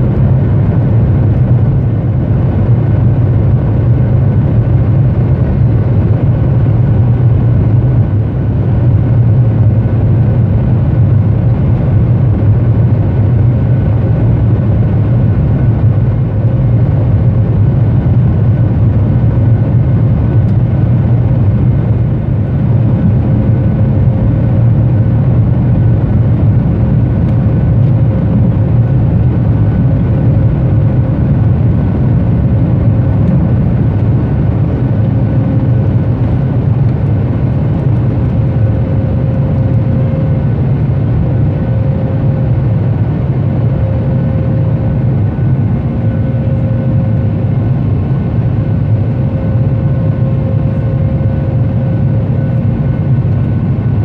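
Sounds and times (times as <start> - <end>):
faint engine whine: 0.0 - 54.0
jet engine low rumble: 0.0 - 54.0.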